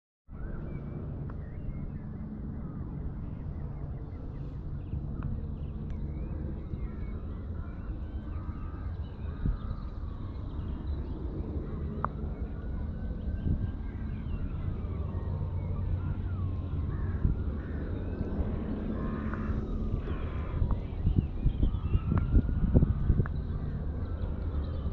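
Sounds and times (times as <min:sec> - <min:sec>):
birds gliding cries: 0:00.3 - 0:24.9
steady low rumble: 0:00.3 - 0:24.9.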